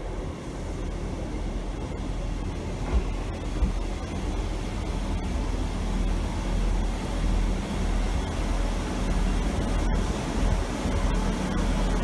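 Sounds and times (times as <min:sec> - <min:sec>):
train engines and wheels rumbling: 0:00.0 - 0:12.0.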